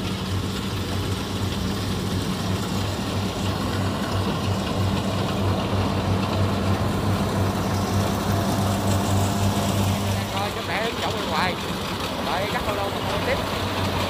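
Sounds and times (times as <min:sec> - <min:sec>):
combine harvester hum: 0:00.0 - 0:14.0.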